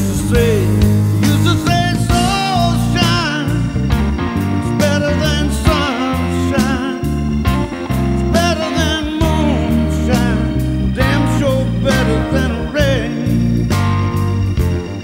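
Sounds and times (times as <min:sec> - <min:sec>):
blues-rock song with steady beat: 0:00.0 - 0:15.0.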